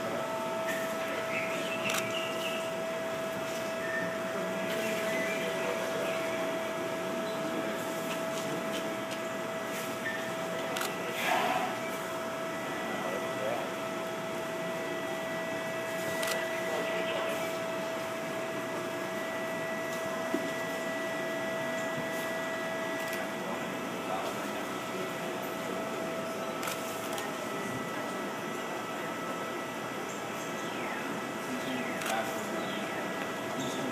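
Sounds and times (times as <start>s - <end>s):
faint high whine: 0.0s - 33.9s
machine hum with hiss: 0.0s - 33.9s.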